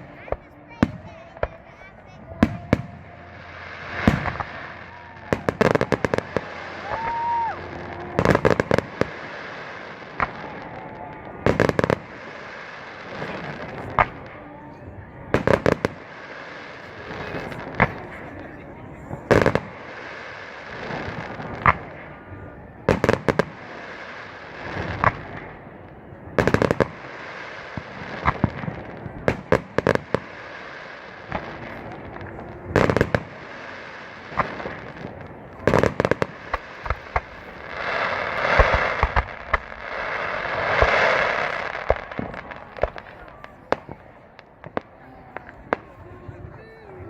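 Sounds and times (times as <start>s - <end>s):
fireworks bangs and pops: 0.0s - 14.5s, 15.3s - 22.3s, 22.9s - 47.0s
fireworks crackling: 0.0s - 47.0s.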